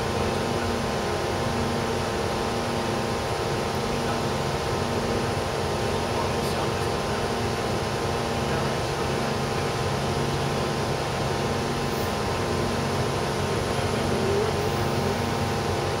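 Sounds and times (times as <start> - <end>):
steady mechanical drone: 0.0 - 16.0.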